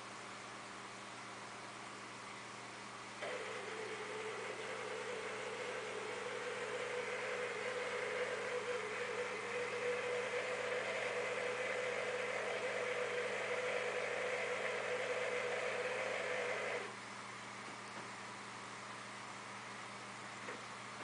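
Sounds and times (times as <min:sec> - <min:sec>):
aquarium equipment humming: 0:00.0 - 0:21.0.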